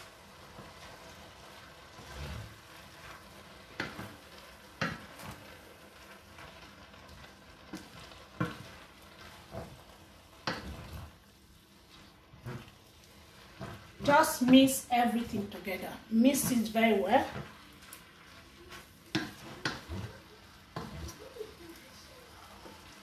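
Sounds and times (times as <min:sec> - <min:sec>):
sauce sizzling: 0:00.0 - 0:23.0
spoon stirring pasta in pot: 0:00.0 - 0:23.0.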